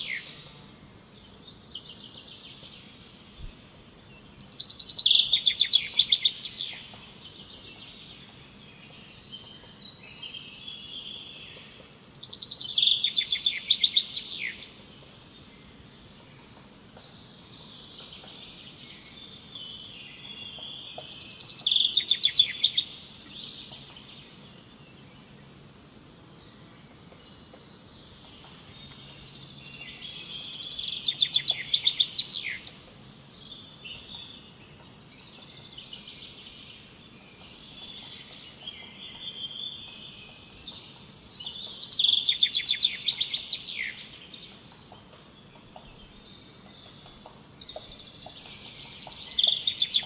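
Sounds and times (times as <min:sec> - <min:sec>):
bird song with rapid trill: 0:00.0 - 0:25.6, 0:26.2 - 0:50.0.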